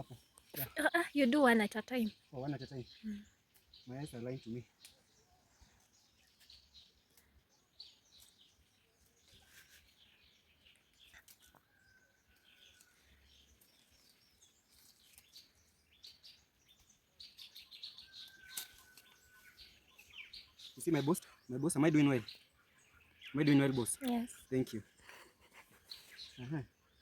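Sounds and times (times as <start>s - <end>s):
faint birds chirping: 0.0s - 27.0s.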